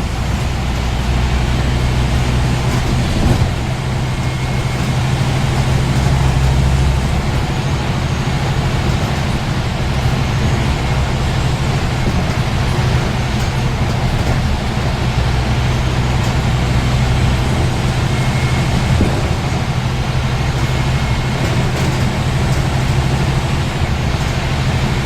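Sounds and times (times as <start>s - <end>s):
bus diesel engine running: 0.0s - 25.0s
road noise: 0.0s - 25.0s.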